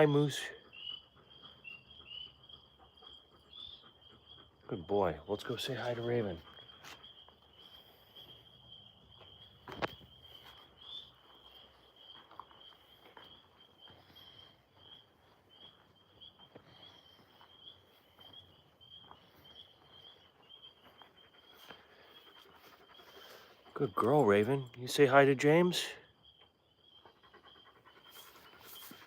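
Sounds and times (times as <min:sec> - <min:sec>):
tree frogs trilling: 0:00.0 - 0:29.0.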